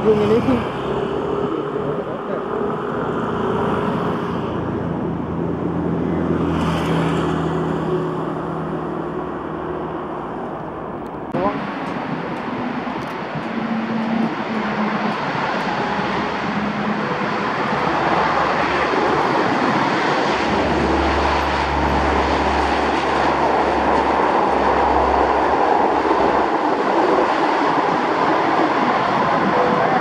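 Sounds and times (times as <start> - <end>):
turboprop aircraft engines running: 0.0 - 30.0.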